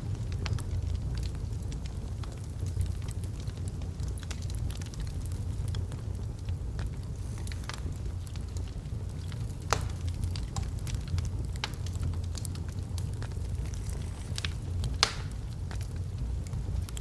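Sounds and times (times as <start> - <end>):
fire crackles and pops: 0.0 - 17.0
flames rumbling: 0.0 - 17.0.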